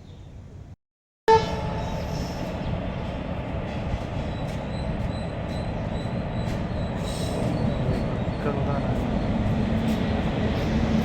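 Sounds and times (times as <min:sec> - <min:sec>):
train wheels rumbling on rails: 0:01.5 - 0:11.0.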